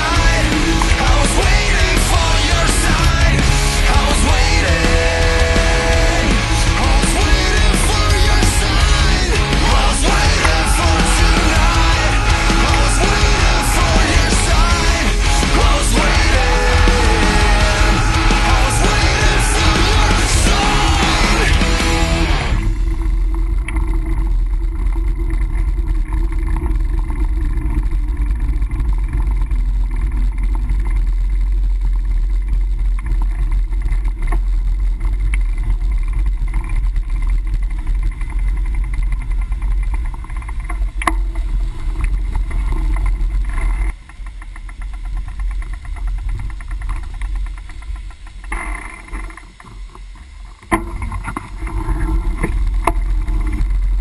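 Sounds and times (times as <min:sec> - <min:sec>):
rapid even ticking: 0:00.0 - 0:49.6.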